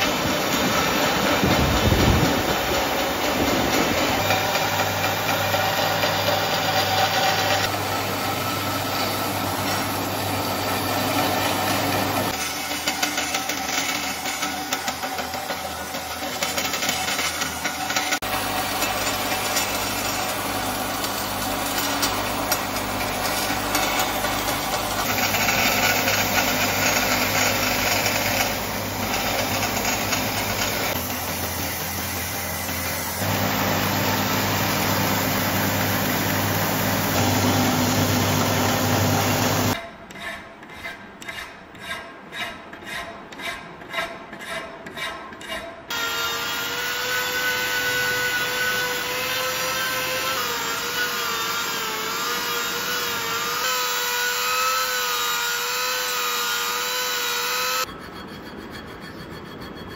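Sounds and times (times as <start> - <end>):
belt grinder grinding steel: 0.0 - 39.8, 45.9 - 59.9
hand file rasping on blade: 11.1 - 59.9.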